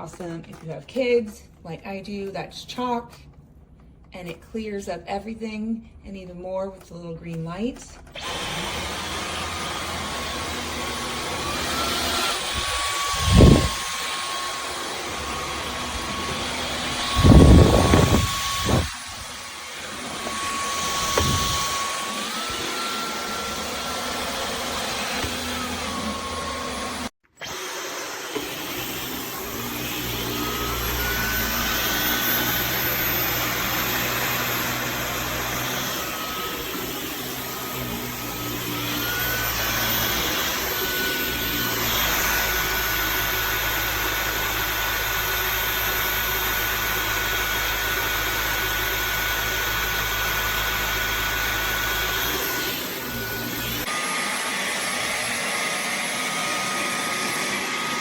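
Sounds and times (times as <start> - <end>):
vacuum cleaner motor whine: 8.2 - 58.0.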